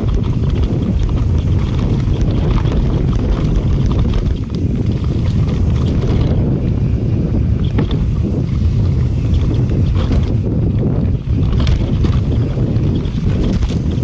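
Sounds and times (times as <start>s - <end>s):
bike clicks and rattles: 0.0s - 14.0s
tyres rolling on dirt: 0.0s - 14.0s
wind rumble on microphone: 0.0s - 14.0s.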